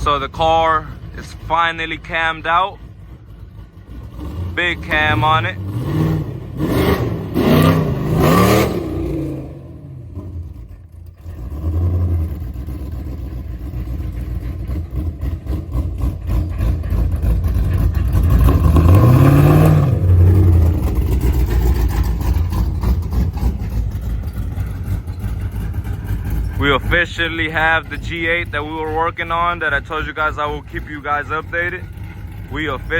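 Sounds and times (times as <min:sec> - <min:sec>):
car engine revving and idling: 0:00.0 - 0:32.9.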